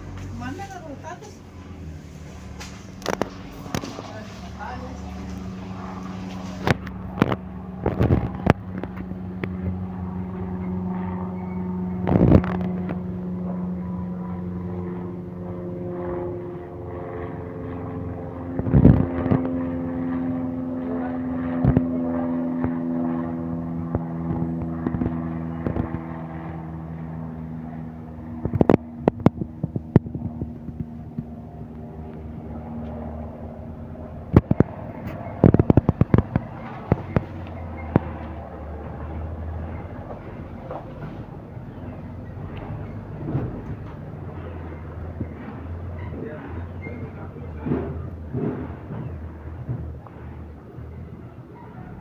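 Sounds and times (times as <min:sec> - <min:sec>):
aircraft engine humming: 0:00.0 - 0:52.0.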